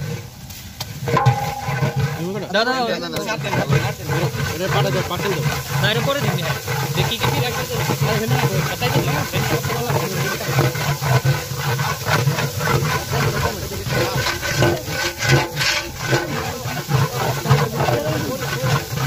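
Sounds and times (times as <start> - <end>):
metal ladle scraping pot: 0.0 - 19.0
onions frying: 0.0 - 19.0.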